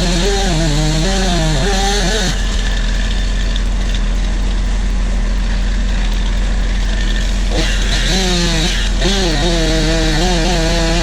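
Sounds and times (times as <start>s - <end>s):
large engine running: 0.0s - 11.0s
wavering pitched whine: 0.0s - 11.0s.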